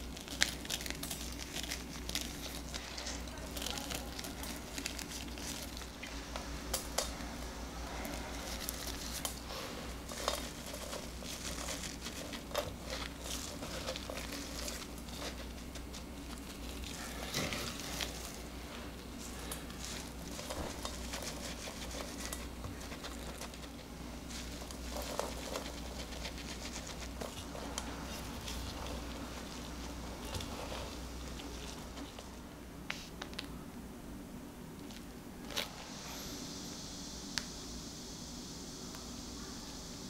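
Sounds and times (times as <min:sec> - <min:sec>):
chocolate shavings rustling: 0:00.0 - 0:33.5.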